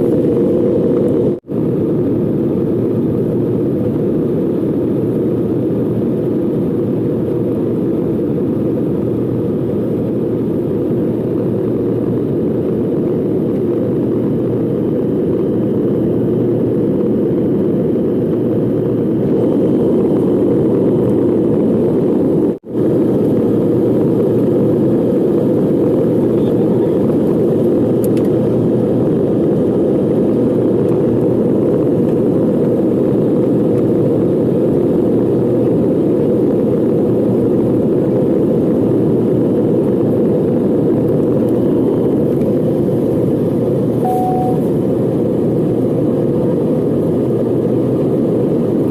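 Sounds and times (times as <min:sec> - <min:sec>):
jet engine and airflow rumble: 0:00.0 - 0:48.9.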